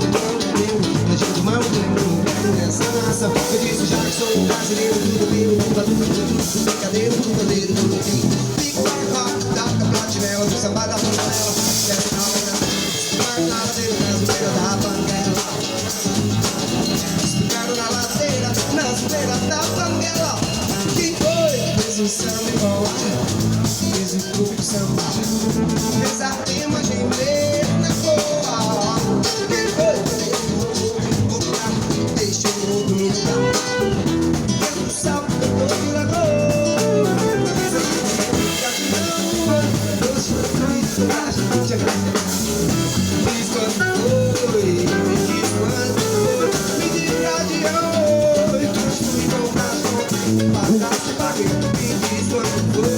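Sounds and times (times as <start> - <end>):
drum kit: 0.0 - 52.9
electric bass: 0.0 - 52.9
electric guitar: 0.0 - 52.9.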